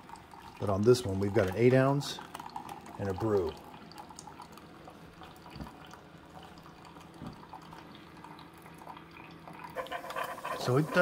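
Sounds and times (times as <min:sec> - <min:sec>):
coffee maker humming: 0:00.0 - 0:11.0
water trickling and dripping: 0:00.0 - 0:11.0.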